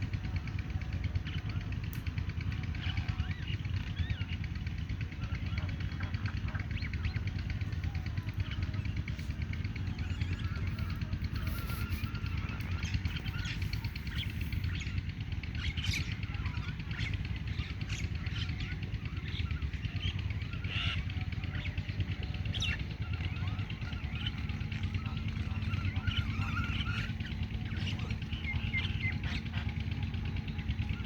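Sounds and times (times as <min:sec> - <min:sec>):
steady low rumble: 0:00.0 - 0:31.0
mynas chattering: 0:05.2 - 0:31.0.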